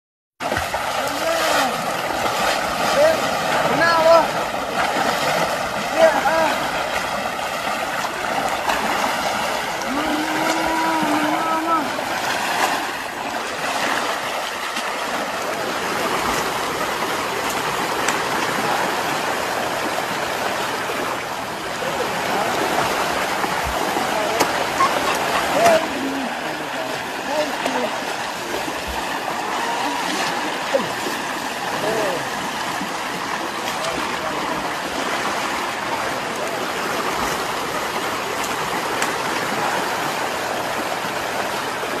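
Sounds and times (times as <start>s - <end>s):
river rushing: 0.4s - 42.0s.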